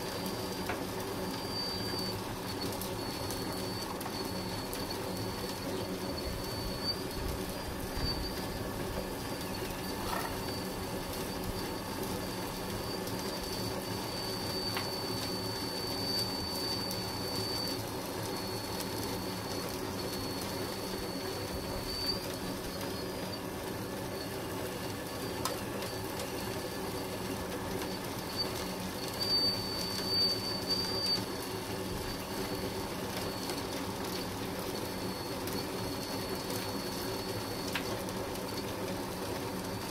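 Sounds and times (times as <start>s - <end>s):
hydraulic pump humming and whining: 0.0s - 39.9s.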